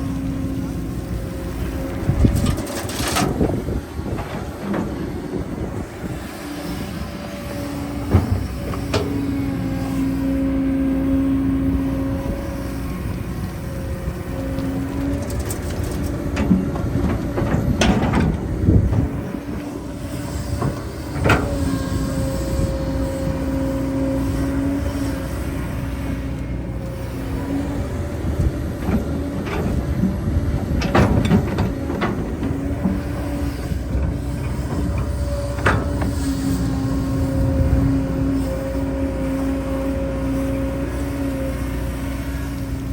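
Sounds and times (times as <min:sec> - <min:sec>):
heavy machinery engine hum: 0:00.0 - 0:42.9.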